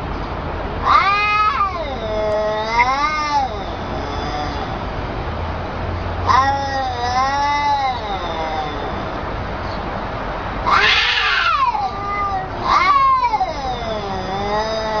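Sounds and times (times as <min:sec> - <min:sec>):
cats yowling: 0:00.8 - 0:05.0, 0:06.2 - 0:09.8, 0:10.6 - 0:15.0.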